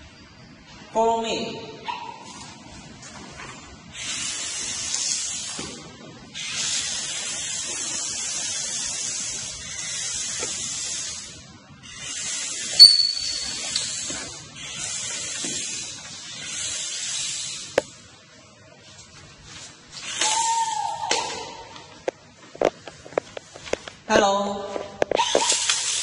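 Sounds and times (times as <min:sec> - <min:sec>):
steady hiss: 0:02.3 - 0:24.1.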